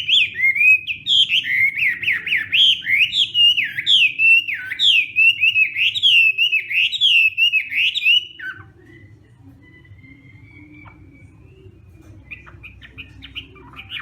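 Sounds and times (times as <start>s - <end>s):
bird singing whistled phrases: 0.0s - 14.0s.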